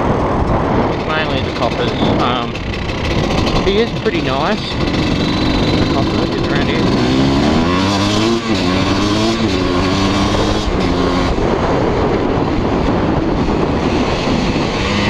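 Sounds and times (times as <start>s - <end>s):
wind noise: 0.0s - 15.0s
dirt bike engine revving: 0.9s - 15.0s.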